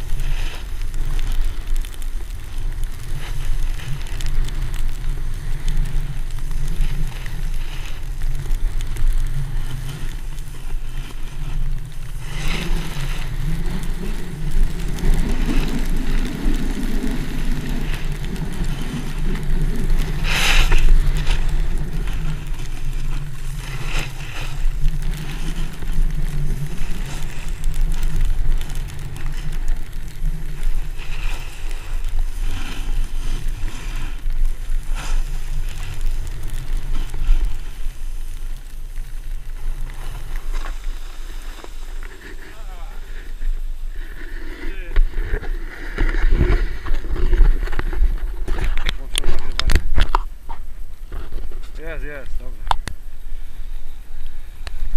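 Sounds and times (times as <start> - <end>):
snowboard sliding over snow: 0.0 - 54.9
wind rumbling on microphone: 0.0 - 54.9.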